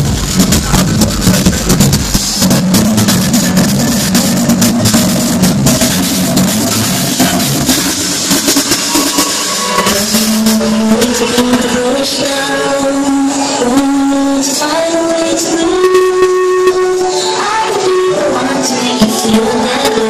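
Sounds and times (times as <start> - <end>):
electronic dance music: 0.0 - 20.0
sustained synth notes: 0.0 - 20.0.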